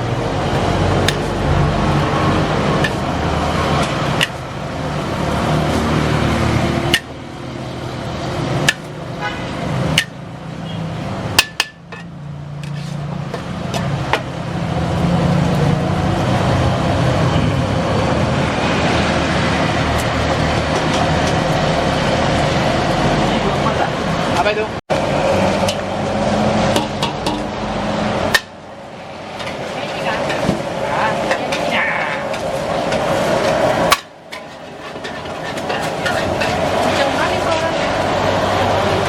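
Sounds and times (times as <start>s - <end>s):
noisy background: 0.0s - 39.0s.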